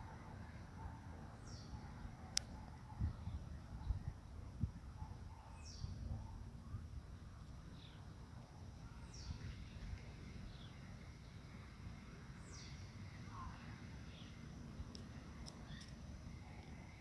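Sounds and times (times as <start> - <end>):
faint birdsong: 0.1 - 17.0.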